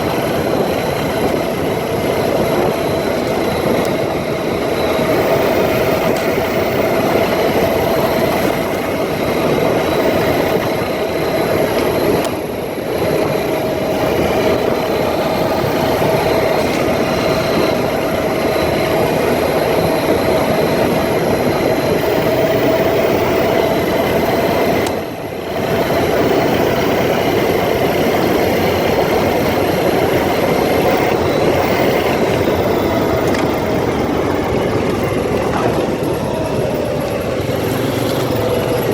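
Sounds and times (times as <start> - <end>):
atv engine running: 0.0 - 38.9
rush of travel: 0.0 - 38.9.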